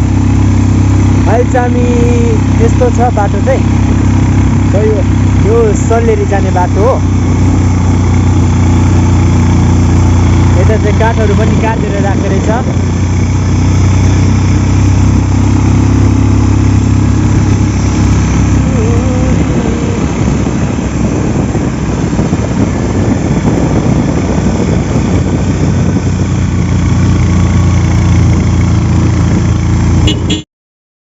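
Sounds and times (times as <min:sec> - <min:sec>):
vehicle engine humming: 0:00.0 - 0:30.5.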